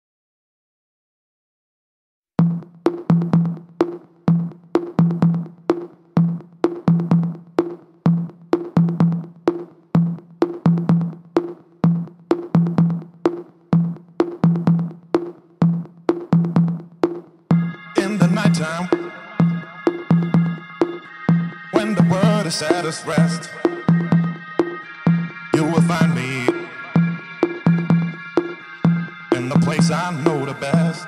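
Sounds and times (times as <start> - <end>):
drum machine beat: 2.4 - 31.0
instrumental pop music: 2.4 - 31.0.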